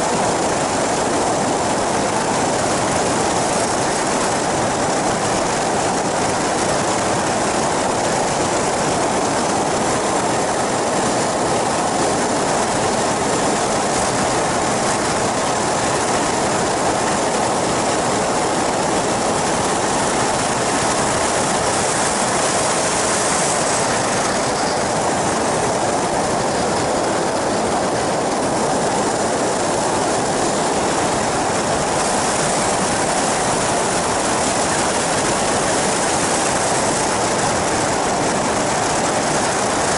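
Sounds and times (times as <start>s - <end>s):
aircraft engine and propeller drone: 0.0s - 39.9s
rushing air: 0.0s - 39.9s.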